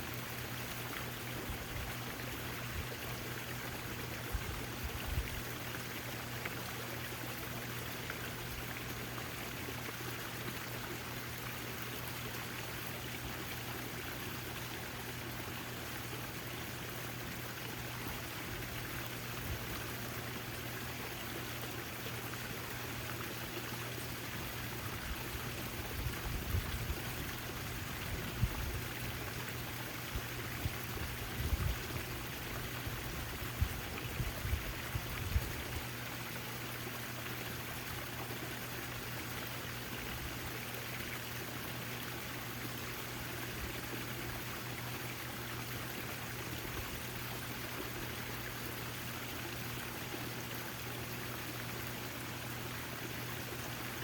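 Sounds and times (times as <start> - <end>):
fountain water trickling: 0.0 - 54.0
low steady hum: 0.0 - 54.0.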